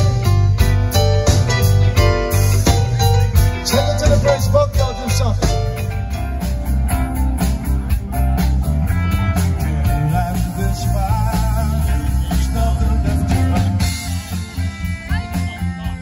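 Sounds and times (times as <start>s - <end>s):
bass guitar: 0.0s - 16.0s
bending lead guitar line: 0.0s - 16.0s
drum kit beat: 0.0s - 16.0s
electric guitars: 0.0s - 16.0s.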